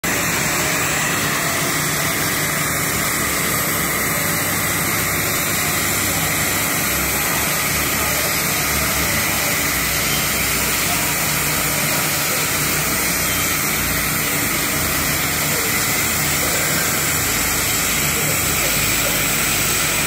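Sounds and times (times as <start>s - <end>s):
welding arc hissing: 0.0s - 20.0s.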